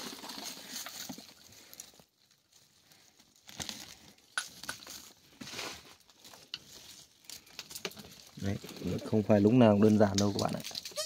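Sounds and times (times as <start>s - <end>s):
twigs and leaves crackling: 0.0s - 11.0s.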